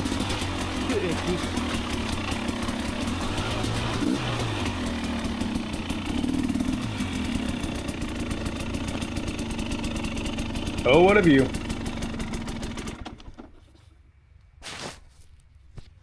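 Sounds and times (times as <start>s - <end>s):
two-stroke dirt bike engine: 0.0s - 13.7s.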